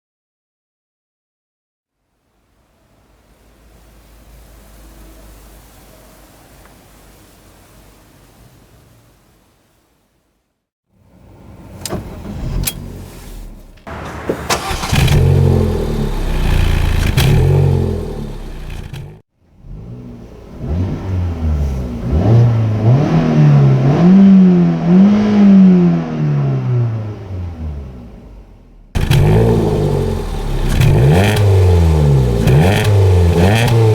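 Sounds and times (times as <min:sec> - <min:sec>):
car engine starting and revving: 0:02.4 - 0:09.3, 0:11.1 - 0:33.9.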